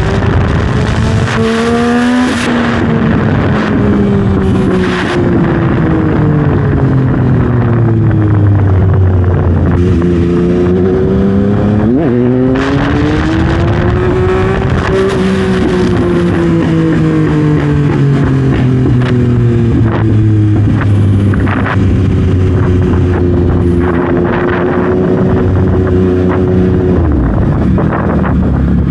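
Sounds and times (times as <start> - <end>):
motorcycle engine: 0.0 - 28.9.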